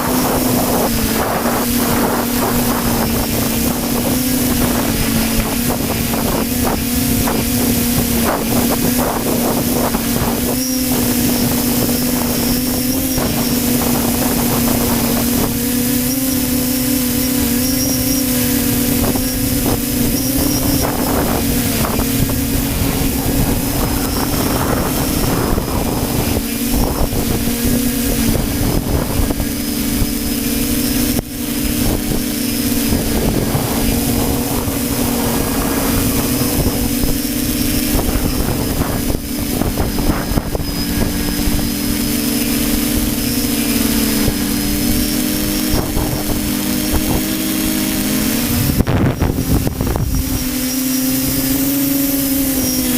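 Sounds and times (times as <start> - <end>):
model aircraft motor drone: 0.0 - 52.9
wind buffeting microphone: 0.0 - 52.9.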